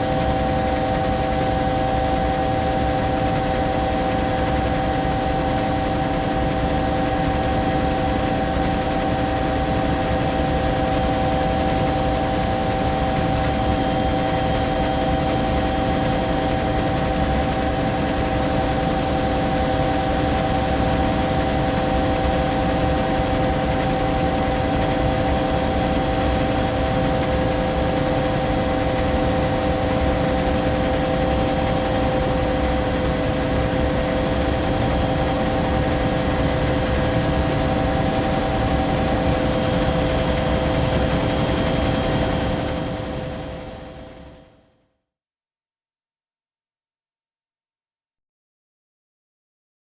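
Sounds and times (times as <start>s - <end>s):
helicopter cabin drone: 0.0s - 44.6s.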